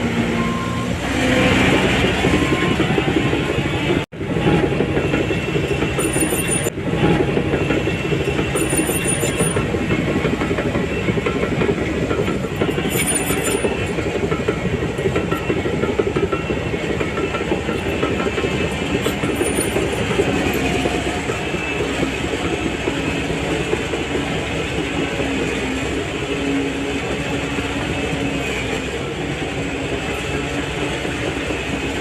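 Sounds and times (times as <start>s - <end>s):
diesel engine under load: 0.0s - 32.0s
steel tracks clattering: 0.0s - 32.0s.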